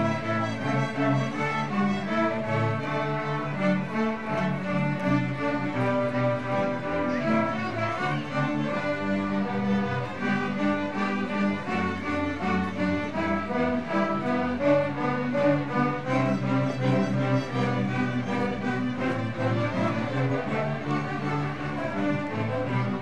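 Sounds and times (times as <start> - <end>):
string orchestra playing: 0.0 - 23.0.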